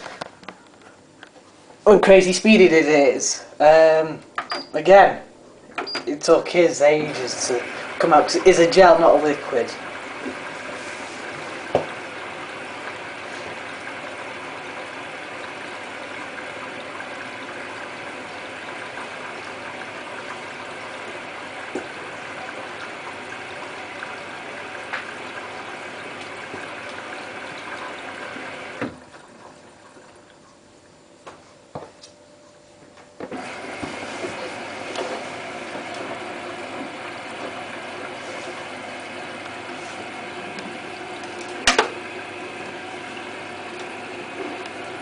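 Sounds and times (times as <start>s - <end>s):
washing machine filling with water: 1.9s - 31.3s, 33.2s - 45.0s.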